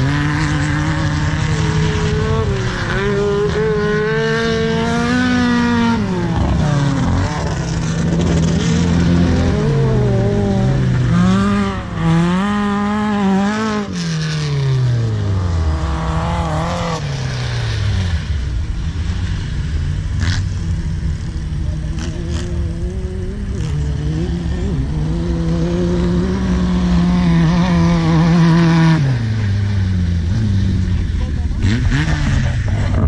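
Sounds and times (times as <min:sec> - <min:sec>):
race buggy engines revving: 0:00.0 - 0:33.0.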